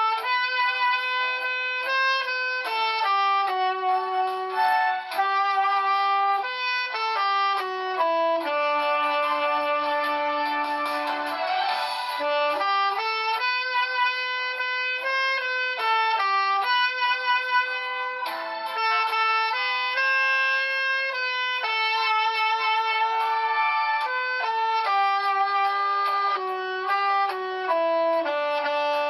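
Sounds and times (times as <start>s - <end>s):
tenor saxophone slow melody: 0.0s - 29.0s.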